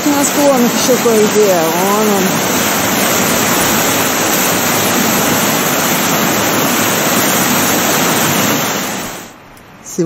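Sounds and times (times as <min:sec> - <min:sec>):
river rushing over stones: 0:00.0 - 0:09.3.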